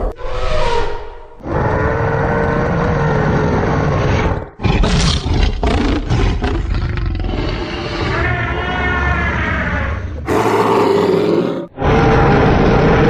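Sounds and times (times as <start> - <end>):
long roaring call: 1.4 - 4.8, 5.4 - 13.0
rough pulsing roar: 1.4 - 13.0.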